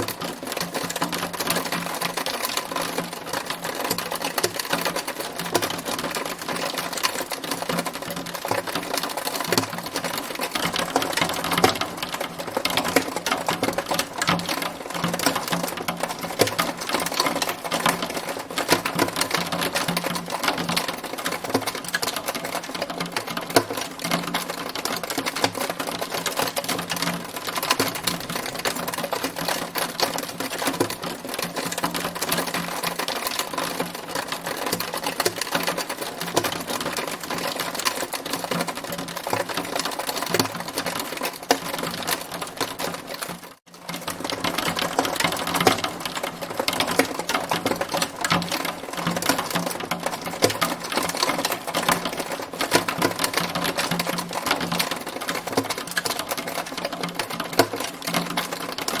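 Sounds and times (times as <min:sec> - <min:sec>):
hailstones striking hard surface: 0:00.1 - 0:59.0.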